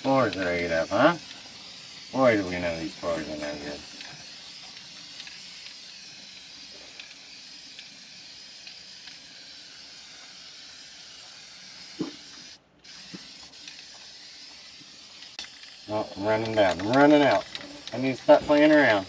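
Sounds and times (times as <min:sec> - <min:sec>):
aerosol can spraying: 0:00.0 - 0:19.0.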